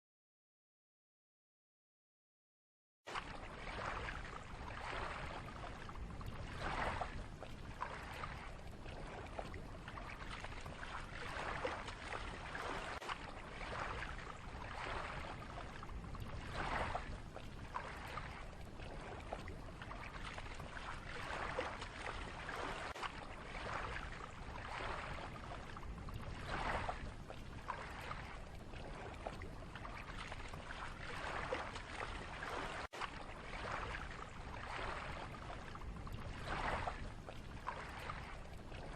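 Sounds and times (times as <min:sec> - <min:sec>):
lake water lapping: 0:03.1 - 0:38.9
water splashes: 0:03.1 - 0:38.9.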